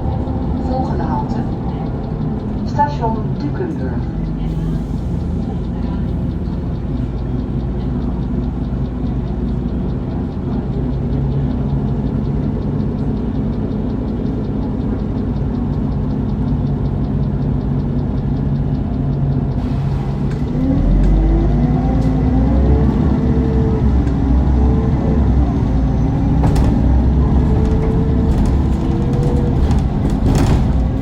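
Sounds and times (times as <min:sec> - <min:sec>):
bus engine running: 0:00.0 - 0:31.0.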